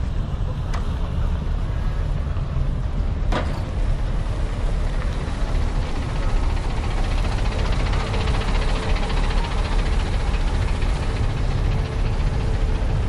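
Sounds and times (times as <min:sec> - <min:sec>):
bus diesel engine rumble: 0:00.0 - 0:13.0.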